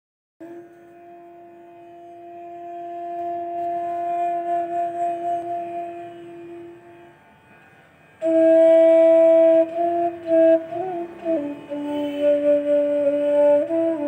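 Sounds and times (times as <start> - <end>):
slow melody of long held notes: 0.4 - 14.0.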